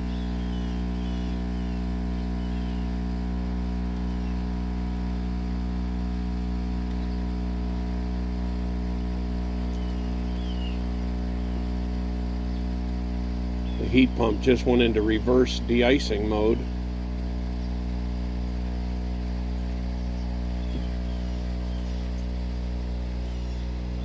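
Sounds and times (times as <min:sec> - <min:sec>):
heat pump electrical hum: 0:00.0 - 0:24.0.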